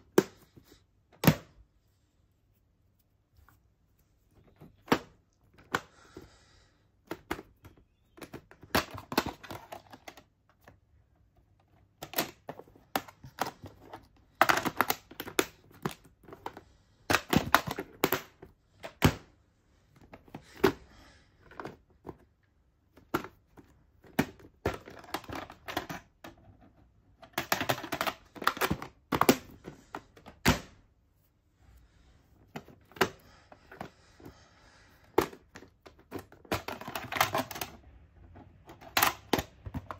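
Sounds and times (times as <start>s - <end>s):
plastic cases clacking: 4.3s - 6.3s, 7.0s - 30.8s, 32.3s - 39.9s.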